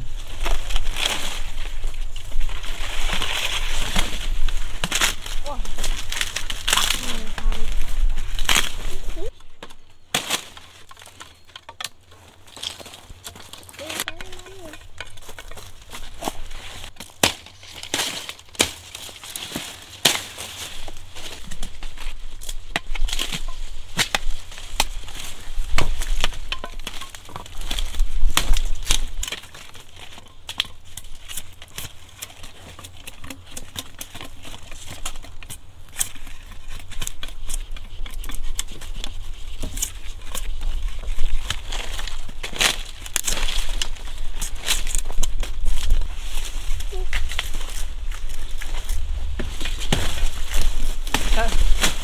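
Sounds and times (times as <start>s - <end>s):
dry leaves crackling: 0.0s - 9.5s, 12.1s - 52.0s.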